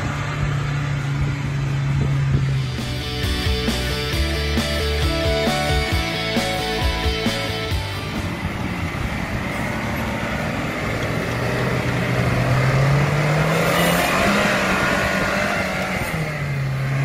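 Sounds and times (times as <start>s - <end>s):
engine revving under load: 0.0s - 17.0s.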